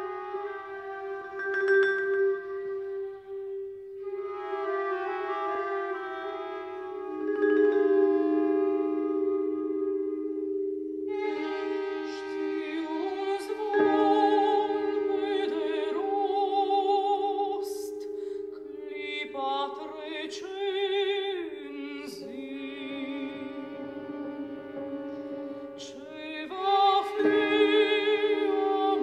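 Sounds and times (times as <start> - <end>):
choir singing held notes: 0.0 - 29.0
low held chord: 0.0 - 29.0.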